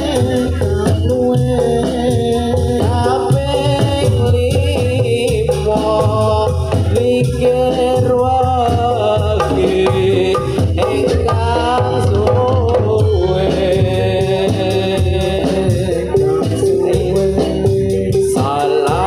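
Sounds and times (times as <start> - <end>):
gongs and metal percussion: 0.0 - 19.0
hand drum beat: 0.0 - 19.0
person singing: 0.0 - 19.0.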